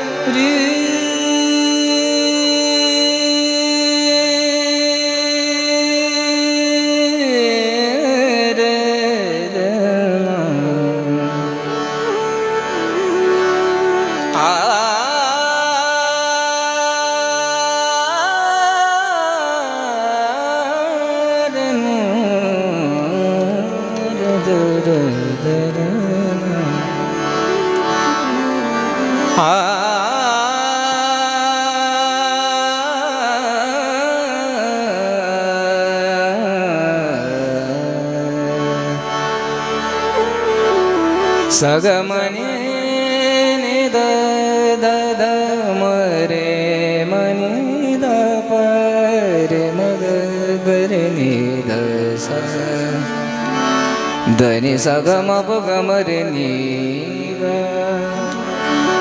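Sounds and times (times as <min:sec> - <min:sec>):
harmonium drone: 0:00.0 - 0:17.8, 0:19.6 - 0:59.0
devotional melody: 0:00.0 - 0:59.0
man singing wordless vocal: 0:00.0 - 0:59.0.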